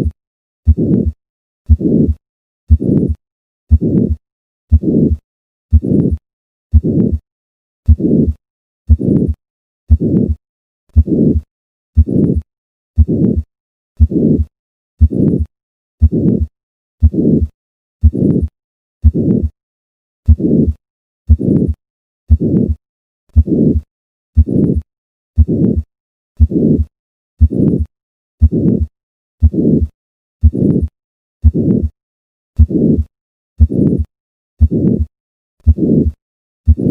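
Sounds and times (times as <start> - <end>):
heartbeat with murmur: 0.0 - 7.2, 7.9 - 10.4, 11.0 - 19.6, 20.3 - 22.8, 23.4 - 23.8, 24.4 - 32.0, 32.6 - 36.9.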